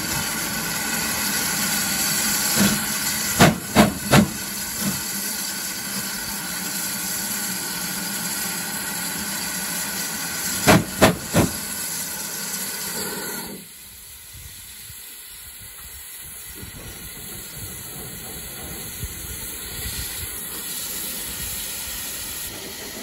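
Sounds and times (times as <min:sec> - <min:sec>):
steam locomotive hissing steam: 0:00.0 - 0:23.0.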